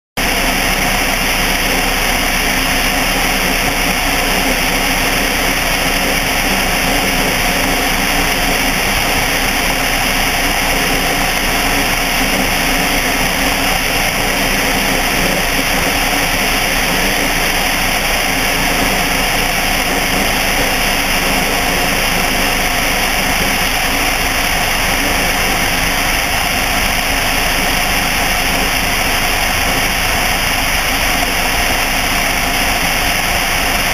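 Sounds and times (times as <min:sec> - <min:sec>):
light aircraft engine and propeller: 0:00.2 - 0:33.9.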